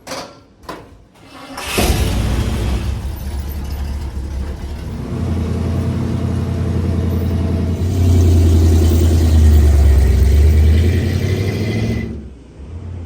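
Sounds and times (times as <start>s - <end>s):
truck engine rumbling: 1.5s - 13.0s.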